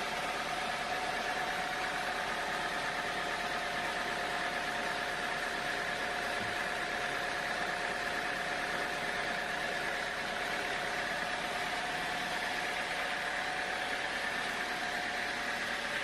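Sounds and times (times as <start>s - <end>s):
sawmill machinery whine: 0.0s - 16.0s.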